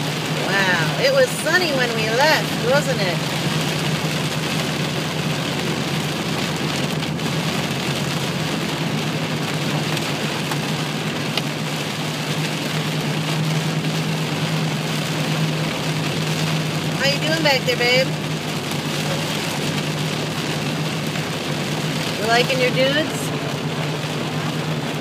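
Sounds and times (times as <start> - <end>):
heavy rain on a car: 0.0 - 25.0
low engine hum: 0.0 - 25.0
tyres hissing on wet road: 0.0 - 25.0.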